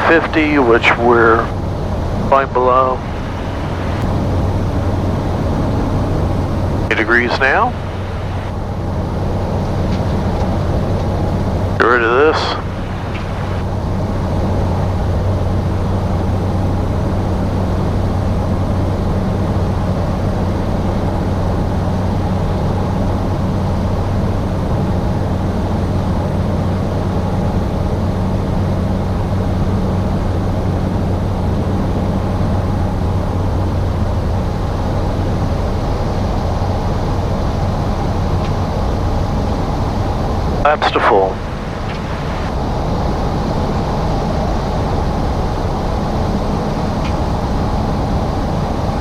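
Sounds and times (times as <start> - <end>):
low even hum: 0.0 - 49.0
turboprop engine droning: 0.0 - 49.0.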